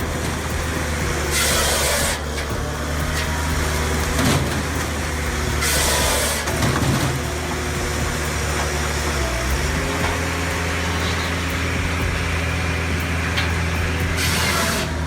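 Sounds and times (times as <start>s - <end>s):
burst of hiss: 0.0s - 15.0s
engine running steadily: 0.0s - 15.0s.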